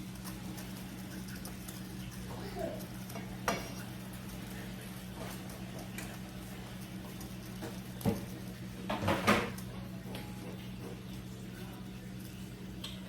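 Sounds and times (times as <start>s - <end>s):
chicken sizzling in a skillet: 0.0s - 13.0s
kitchenware clatter: 0.2s - 11.1s.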